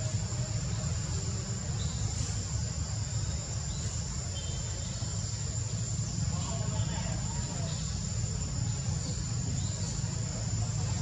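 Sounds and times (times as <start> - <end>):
high insect trill: 0.0 - 11.0.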